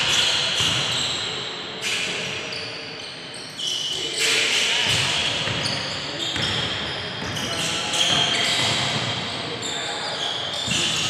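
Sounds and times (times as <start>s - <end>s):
sneakers squeaking: 0.0s - 11.0s.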